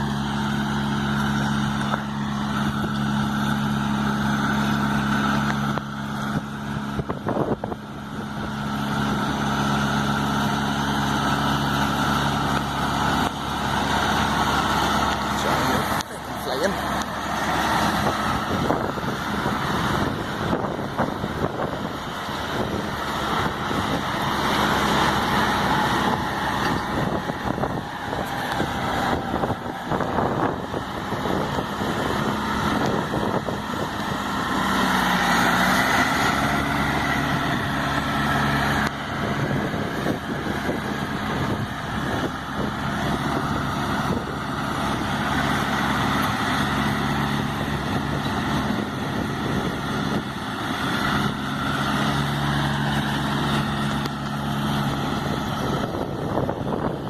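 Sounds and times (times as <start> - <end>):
baler machinery running: 0.0 - 57.0
tractor diesel engine running: 0.0 - 57.0.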